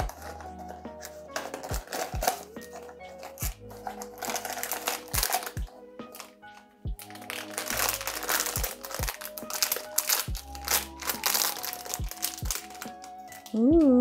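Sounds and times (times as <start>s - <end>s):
foil bag crinkling: 0.0s - 6.3s, 7.0s - 13.6s
background music with drum beat: 0.0s - 14.0s.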